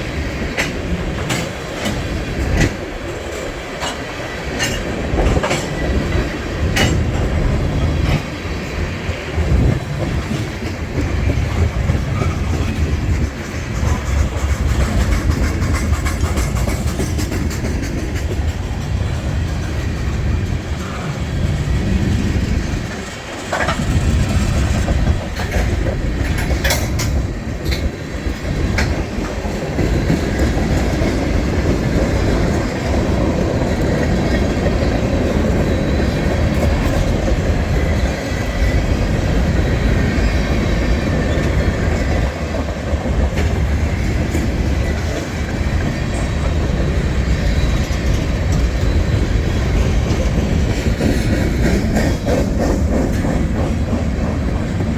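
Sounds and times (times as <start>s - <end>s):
freight train rumbling on rails: 0.0s - 54.9s.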